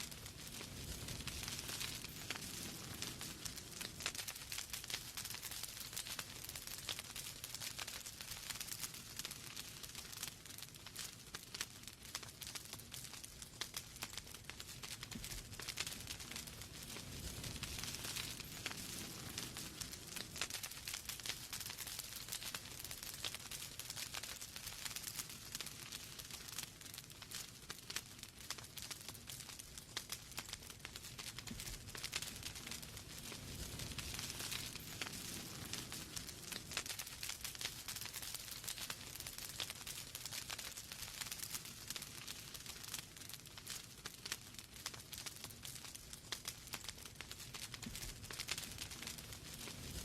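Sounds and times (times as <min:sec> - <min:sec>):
logs crackling and popping: 0:00.0 - 0:50.0
low rumble of flames: 0:00.0 - 0:50.0.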